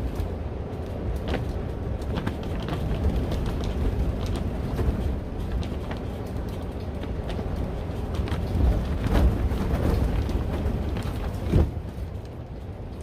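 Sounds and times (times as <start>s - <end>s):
gusting wind rumble: 0.0s - 13.0s.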